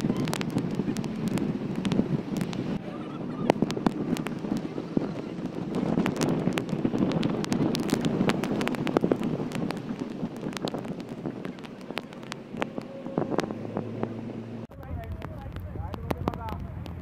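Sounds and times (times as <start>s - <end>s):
road and engine rumble: 0.0s - 17.0s
sharp crackles and ticks: 0.0s - 17.0s
wind rushing across microphone: 0.0s - 17.0s.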